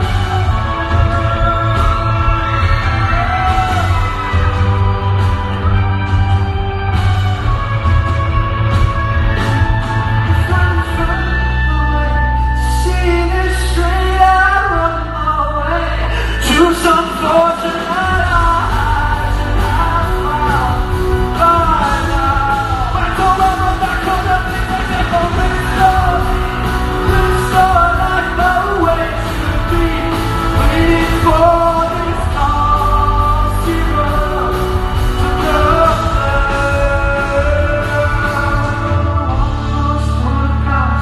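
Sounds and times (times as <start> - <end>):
person singing: 0.0 - 41.0
rock band playing: 0.0 - 41.0.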